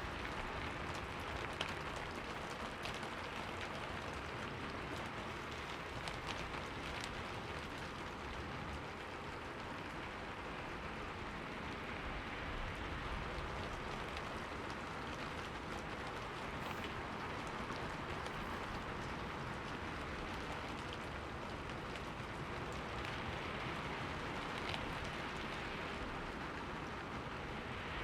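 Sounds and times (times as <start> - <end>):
steady rain pattering: 0.0 - 28.0.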